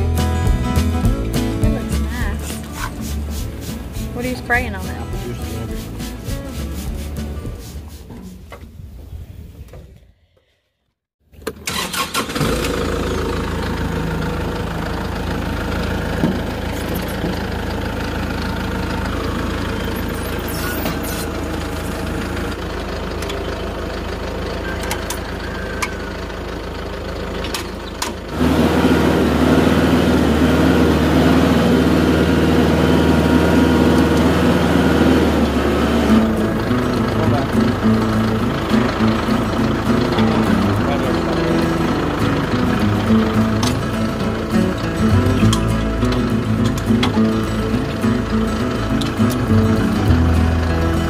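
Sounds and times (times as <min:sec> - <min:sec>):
tractor engine idling: 0:00.0 - 0:09.8, 0:11.3 - 0:51.0.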